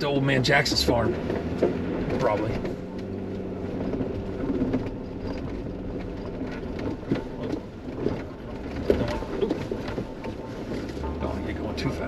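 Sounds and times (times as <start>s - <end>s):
body and suspension rattles: 0.0s - 12.0s
engine hum inside car: 0.0s - 12.0s.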